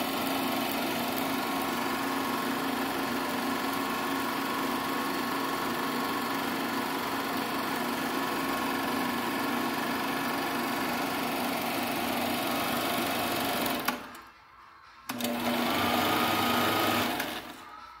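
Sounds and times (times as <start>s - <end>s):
film projector whirring: 0.0s - 14.3s, 15.1s - 17.8s.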